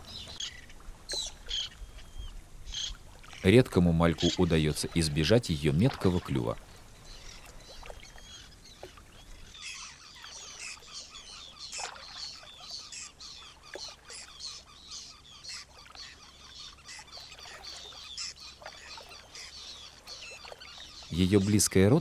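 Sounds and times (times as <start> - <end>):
waterbirds chirping and crying: 0.0 - 22.0.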